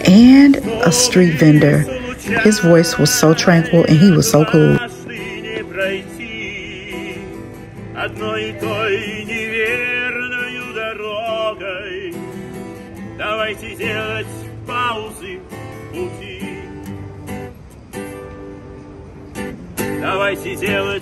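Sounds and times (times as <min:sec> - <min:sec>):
man singing: 0:00.0 - 0:16.9, 0:20.0 - 0:21.0
acoustic guitar strumming: 0:00.0 - 0:21.0.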